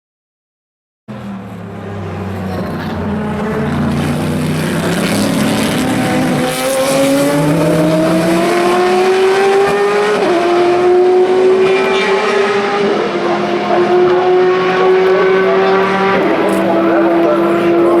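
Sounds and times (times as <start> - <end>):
race car engine accelerating: 1.1 - 18.0.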